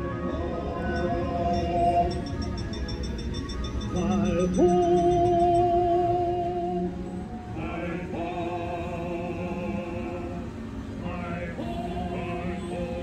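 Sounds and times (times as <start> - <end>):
wordless choir singing: 0.0 - 13.0.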